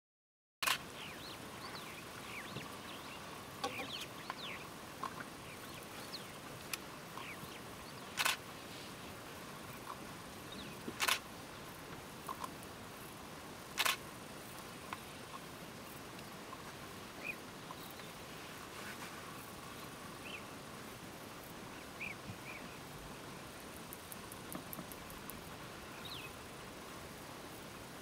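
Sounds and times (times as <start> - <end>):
birds chirping: 0.6 - 12.5, 14.6 - 20.7, 21.6 - 26.6
background hiss: 0.6 - 28.0.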